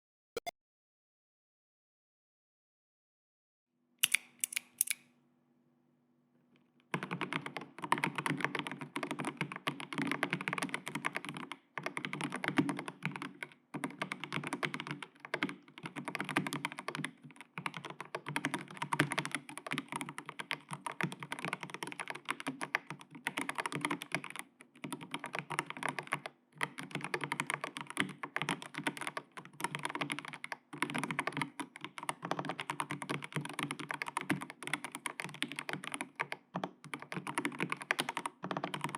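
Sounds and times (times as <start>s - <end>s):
typing on mechanical keyboard: 6.9s - 38.9s.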